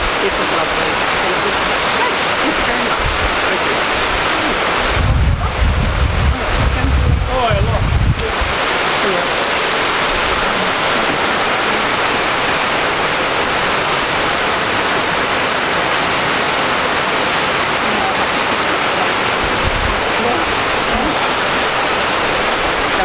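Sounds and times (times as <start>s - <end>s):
fountain water splashing into pool: 0.0s - 23.0s.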